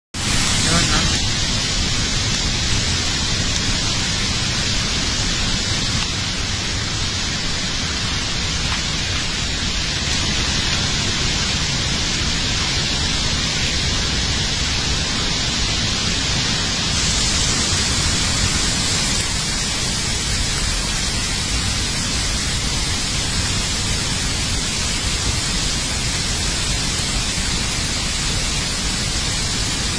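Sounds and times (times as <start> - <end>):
flood water rushing: 0.2 - 29.9.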